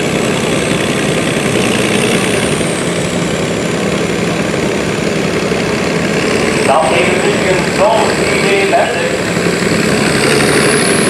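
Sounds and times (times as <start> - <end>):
vehicle engine running loud: 0.0 - 11.0.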